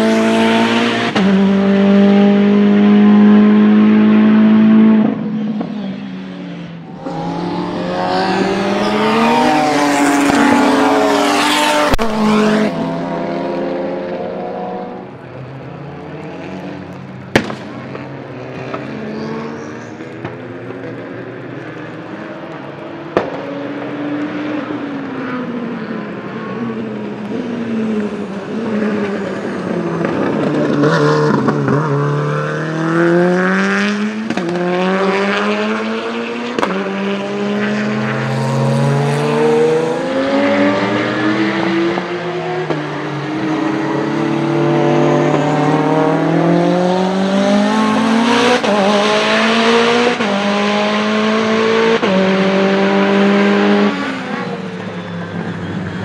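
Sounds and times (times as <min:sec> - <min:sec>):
race car engines at full throttle: 0:00.0 - 0:56.0.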